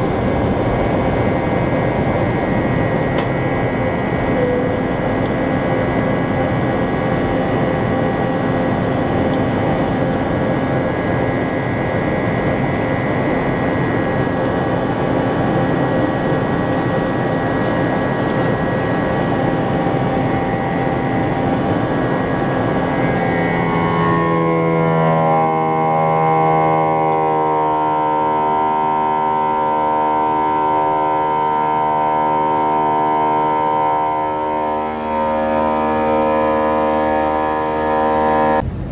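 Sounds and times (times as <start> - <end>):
buzz-saw engine drone: 0.0 - 38.9
jet engines rumbling in cabin: 0.0 - 38.9.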